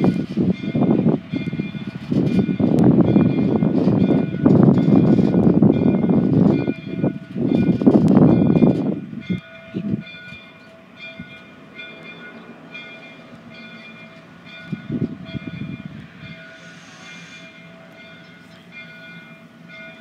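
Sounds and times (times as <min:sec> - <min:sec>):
locomotive bell ringing: 0:00.0 - 0:20.0
train rumbling: 0:00.0 - 0:20.0.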